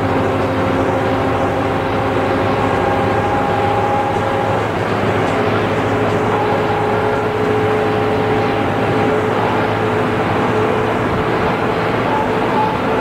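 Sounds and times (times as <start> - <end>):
bus engine low hum: 0.0 - 13.0
transmission whine: 0.0 - 13.0.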